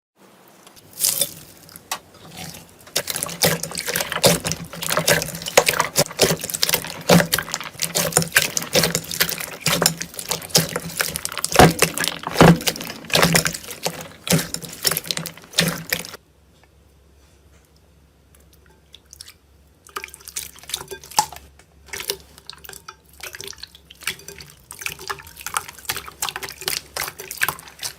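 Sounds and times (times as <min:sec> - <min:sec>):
slime squelching by hand: 0:00.6 - 0:16.2, 0:18.5 - 0:27.9.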